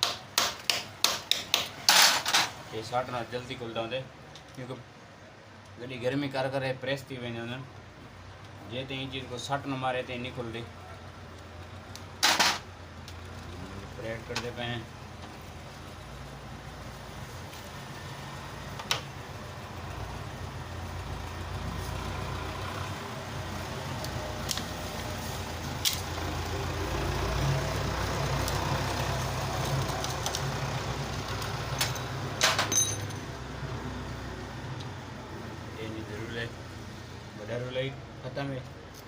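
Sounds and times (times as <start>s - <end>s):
motor traffic rumble: 0.0s - 39.0s.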